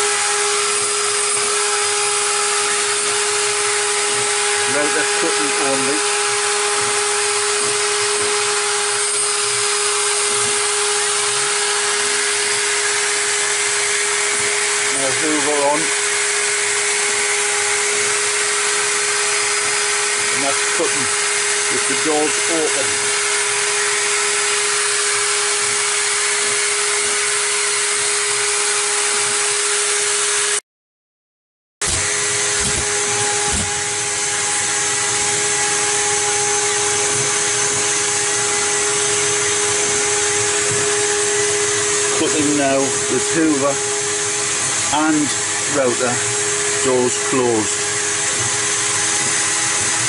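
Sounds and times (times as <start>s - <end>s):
vacuum hissing: 0.0s - 28.6s, 31.8s - 50.0s
router spindle whining: 0.0s - 30.6s, 31.8s - 50.0s.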